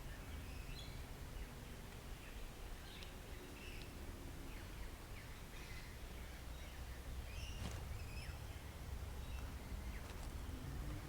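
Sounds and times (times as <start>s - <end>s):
wild birds chirping: 0.0s - 11.0s.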